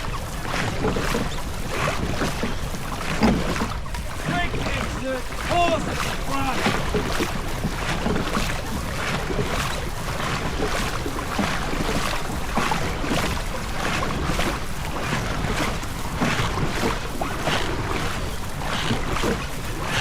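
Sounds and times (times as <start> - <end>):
paddles stroking through water: 0.0 - 20.0.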